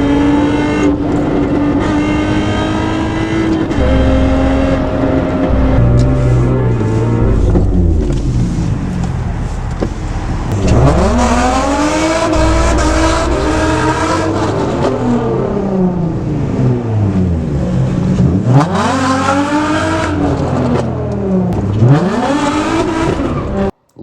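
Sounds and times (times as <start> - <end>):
car engine revving hard: 0.0 - 23.7.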